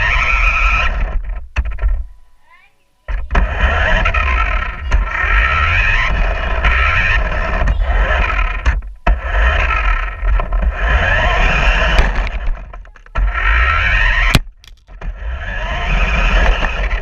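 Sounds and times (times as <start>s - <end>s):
toy truck motor whirring: 3.2s - 17.0s.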